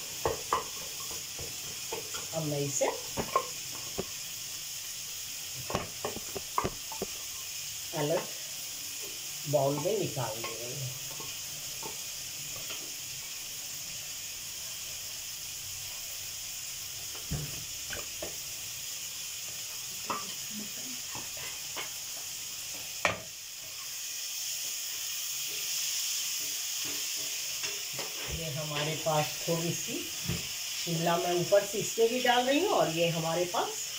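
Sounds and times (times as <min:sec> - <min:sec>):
masala sizzling in a wok: 0:00.0 - 0:33.9.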